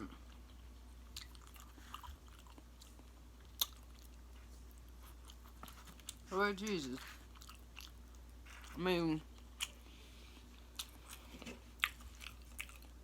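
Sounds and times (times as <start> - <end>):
person chewing: 0.1 - 13.0.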